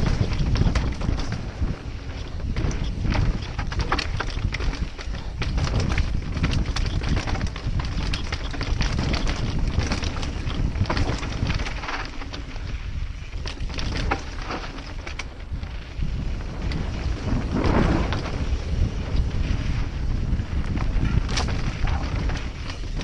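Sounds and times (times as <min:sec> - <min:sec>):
bike rattling over rocks: 0:00.0 - 0:23.0
wind buffeting microphone: 0:00.0 - 0:23.0.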